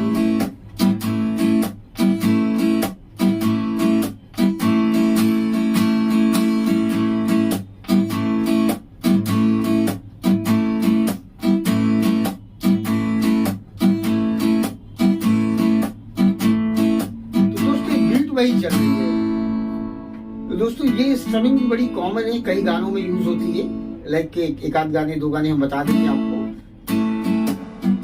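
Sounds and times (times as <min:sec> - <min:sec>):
guitar strummed in waltz pattern: 0:00.0 - 0:24.7, 0:25.5 - 0:28.0.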